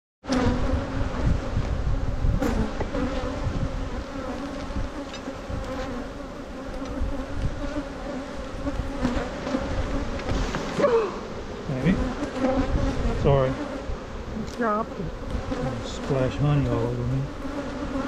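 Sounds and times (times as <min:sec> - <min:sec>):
bees buzzing: 0:00.2 - 0:18.0.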